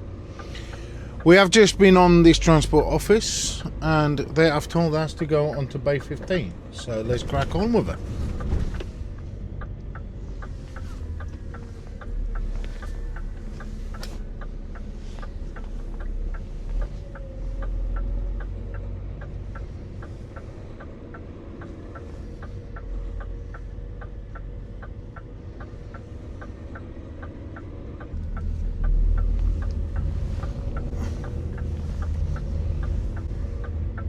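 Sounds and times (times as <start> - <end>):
diesel engine rumbling: 0.0 - 34.0.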